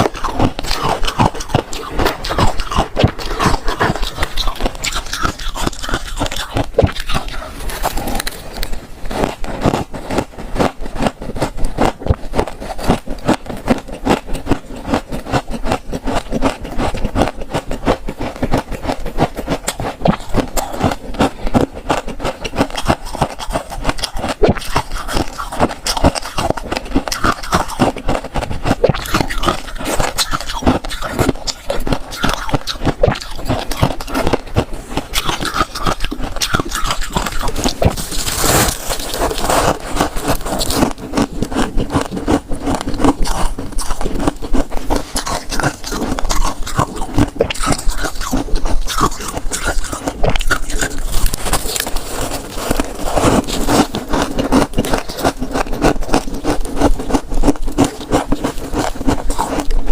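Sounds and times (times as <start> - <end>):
freezer frost being scraped: 0.0 - 59.9.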